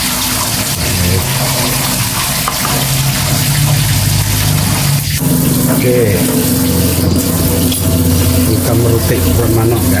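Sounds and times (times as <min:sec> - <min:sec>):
tap water running into sink: 0:00.0 - 0:10.0
low hum: 0:00.7 - 0:09.5.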